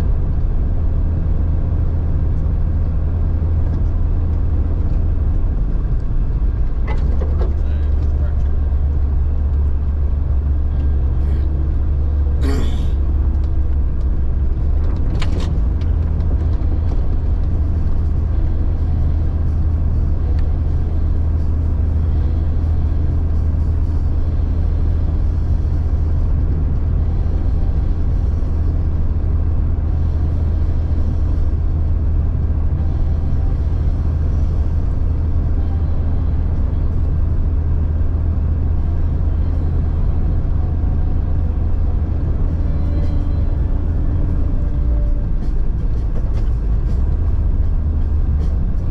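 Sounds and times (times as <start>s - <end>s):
car engine rumbling: 0.0s - 48.9s.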